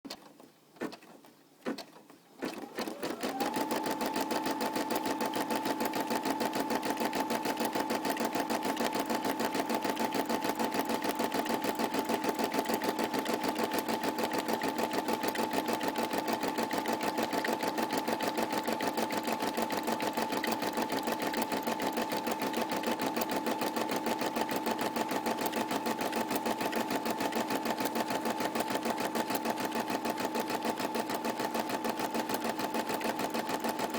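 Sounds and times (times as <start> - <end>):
embroidery machine stitching: 2.4 - 33.9.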